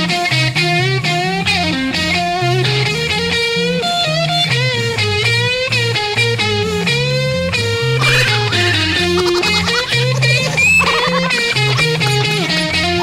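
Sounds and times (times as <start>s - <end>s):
electric guitar lead: 0.0s - 13.0s
walking bass line: 0.0s - 13.0s.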